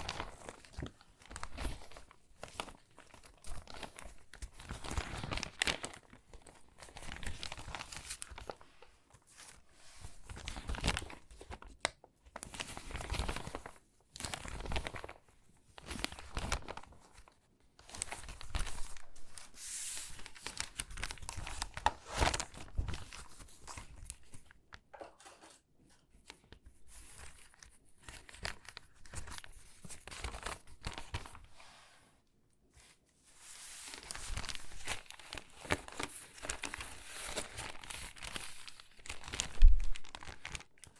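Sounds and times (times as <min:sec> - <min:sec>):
magazine pages crinkling: 0:00.0 - 0:15.2, 0:15.8 - 0:25.6, 0:26.3 - 0:31.5, 0:33.4 - 0:40.9.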